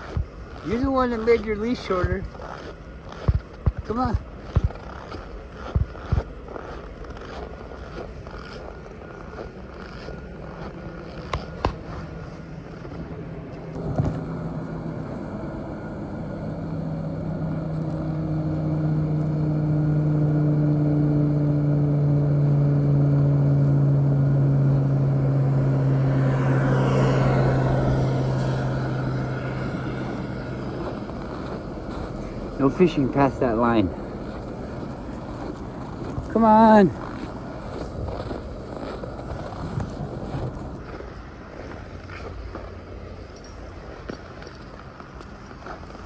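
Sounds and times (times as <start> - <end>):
engine hum passing by: 0.0 - 46.0.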